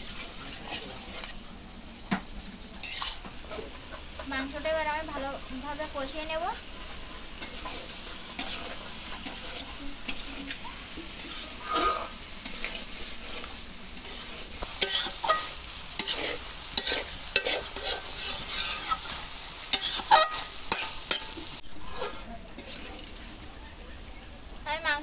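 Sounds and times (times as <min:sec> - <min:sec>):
metal spatula scraping a pan: 0:00.0 - 0:23.4
chicken sizzling in oil: 0:00.0 - 0:25.0.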